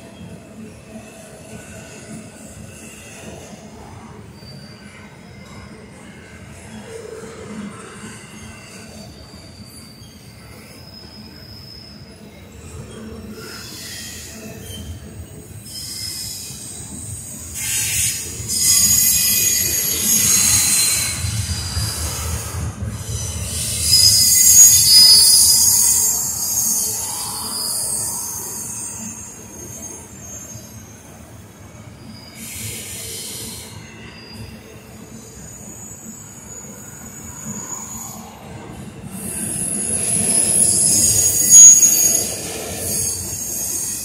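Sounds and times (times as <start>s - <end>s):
freight train rumble: 0.0s - 44.0s
wheel squeal: 8.0s - 31.2s, 32.0s - 44.0s.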